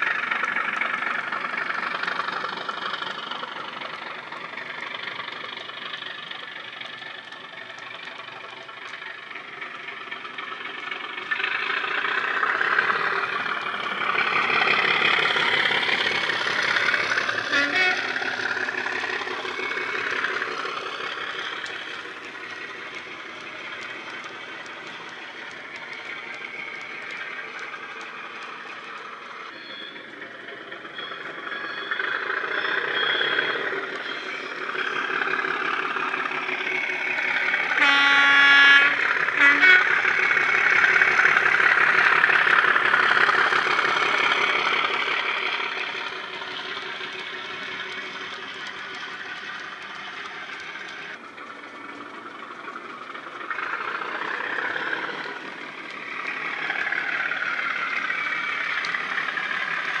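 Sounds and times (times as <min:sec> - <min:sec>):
model diesel engine sound: 0:00.0 - 1:00.0.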